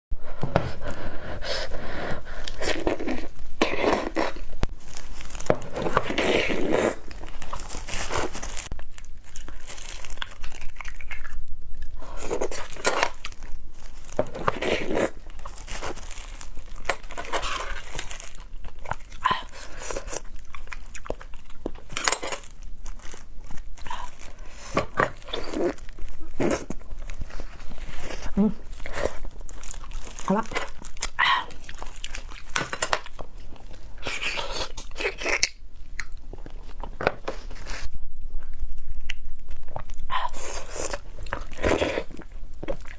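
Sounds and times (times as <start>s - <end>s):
wet biting and chewing: 0.6s - 42.9s.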